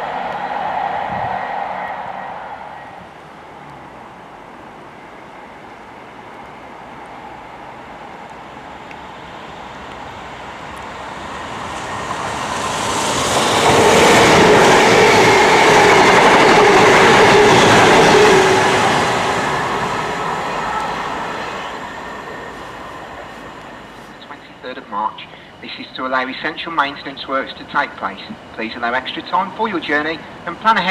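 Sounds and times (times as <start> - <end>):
passenger train passing: 0.0 - 30.9.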